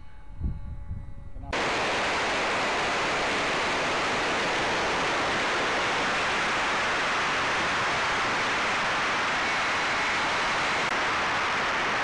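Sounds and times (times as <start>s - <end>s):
wind rushing over microphone: 0.3s - 12.0s.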